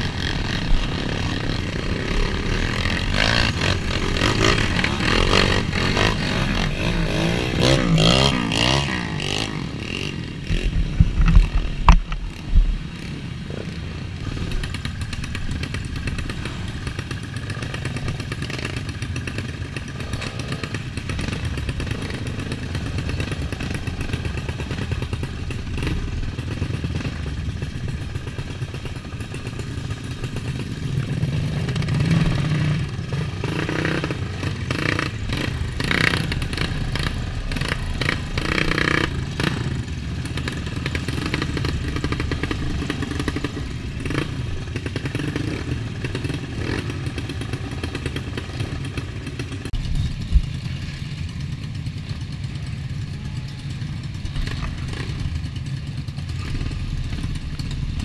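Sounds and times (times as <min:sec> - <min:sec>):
dirt bike engines idling and revving: 0:00.0 - 0:58.0.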